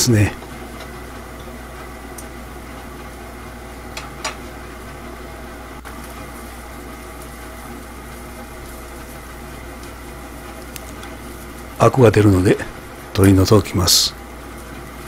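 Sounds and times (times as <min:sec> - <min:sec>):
water boiling in a pan: 0:00.1 - 0:15.0.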